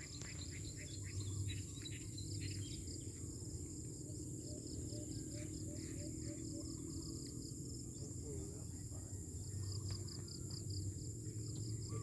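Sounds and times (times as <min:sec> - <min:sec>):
insects droning and chirping: 0:00.0 - 0:12.0.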